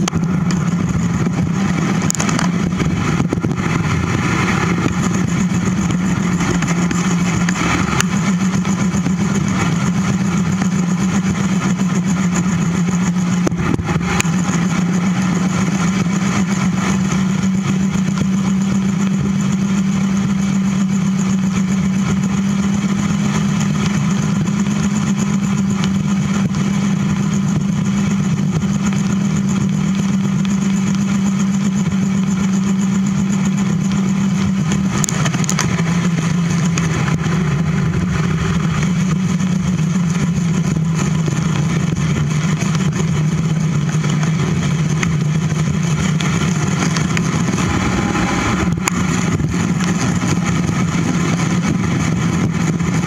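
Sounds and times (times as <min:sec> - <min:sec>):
bicycle tyre noise on pavement: 0:00.0 - 0:53.0
steady low hum: 0:00.0 - 0:53.0
wind rush: 0:00.0 - 0:53.0.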